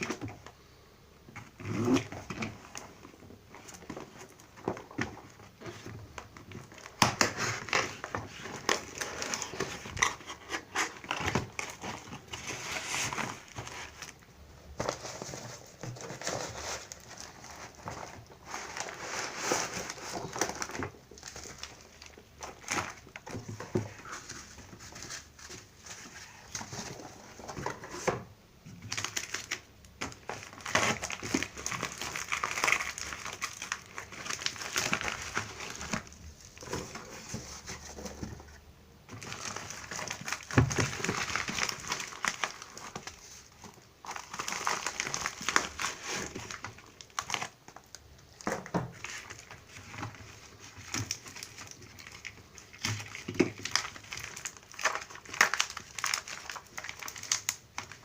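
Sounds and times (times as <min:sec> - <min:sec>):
packaging crinkling and rustling: 0:00.0 - 0:58.0.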